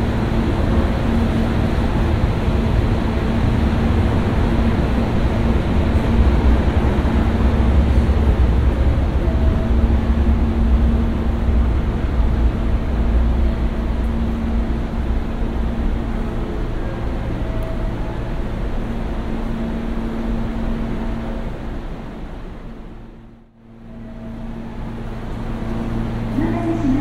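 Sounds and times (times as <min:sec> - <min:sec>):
steady hum: 0:00.0 - 0:27.0
train low rumble: 0:00.0 - 0:27.0.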